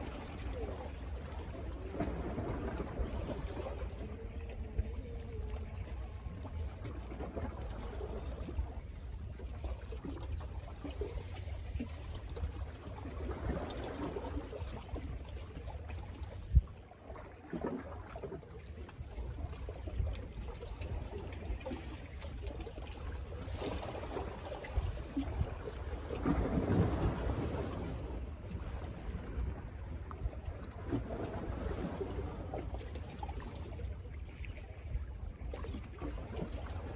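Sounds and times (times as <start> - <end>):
small waves lapping against rocks: 0.0 - 36.9.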